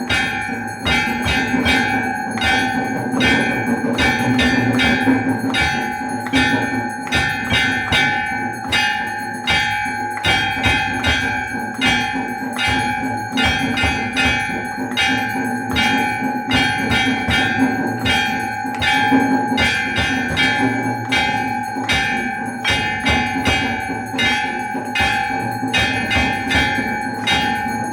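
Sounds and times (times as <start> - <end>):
temple bells ringing: 0.0 - 27.9.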